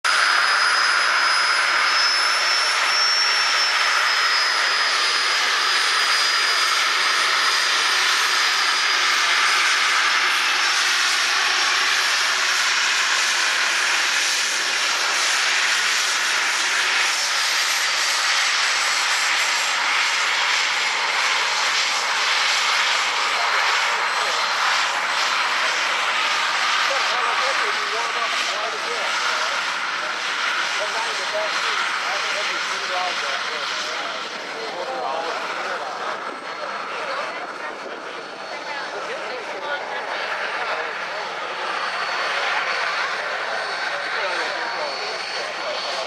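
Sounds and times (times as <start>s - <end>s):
jet engine running with whine: 0.0s - 46.0s.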